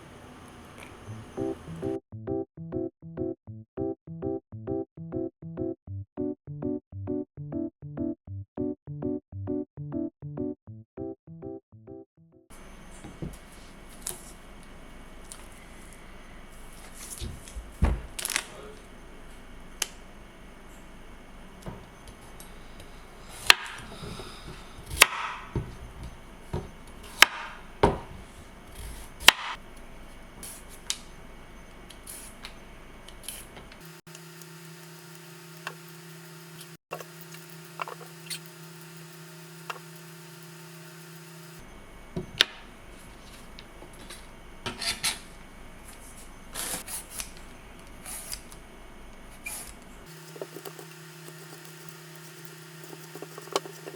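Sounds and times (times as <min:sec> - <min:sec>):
steady low hum: 0:00.0 - 0:02.0, 0:12.5 - 0:53.9.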